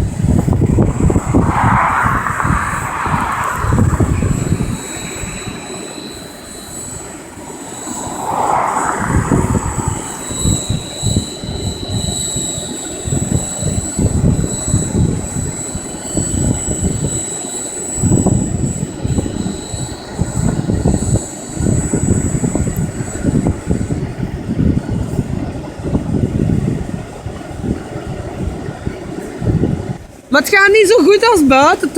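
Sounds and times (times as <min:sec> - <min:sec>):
rotor wash rumble: 0:00.0 - 0:29.9
high-pitched motor whine: 0:00.0 - 0:30.0.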